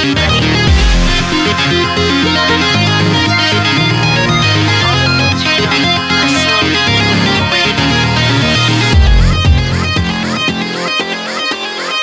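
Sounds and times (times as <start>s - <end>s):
upbeat electric guitar music: 0.0s - 12.0s.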